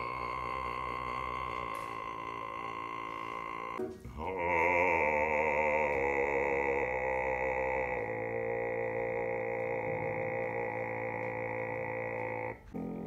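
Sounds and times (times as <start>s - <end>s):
very deep bass voice singing: 0.0s - 13.0s.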